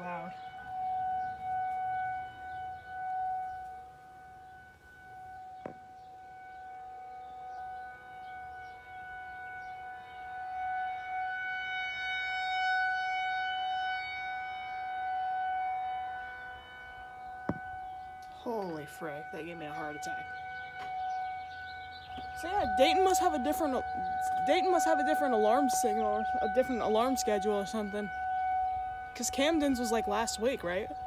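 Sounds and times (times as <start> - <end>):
warning siren wailing: 0.0 - 31.0.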